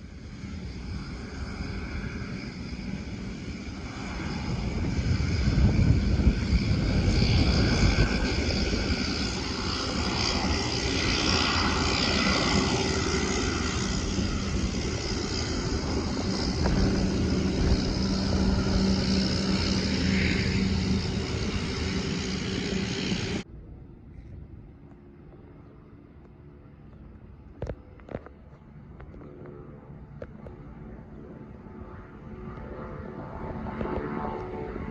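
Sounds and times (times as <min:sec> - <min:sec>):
aircraft engines whining: 0:00.0 - 0:34.9.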